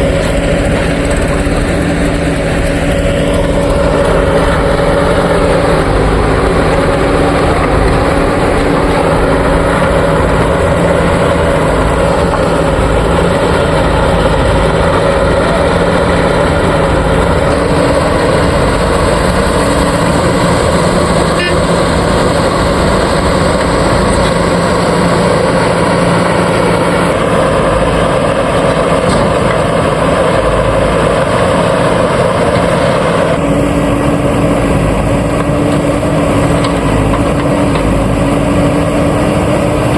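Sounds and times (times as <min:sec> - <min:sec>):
diesel engine of backhoe loader: 0:00.0 - 0:39.9.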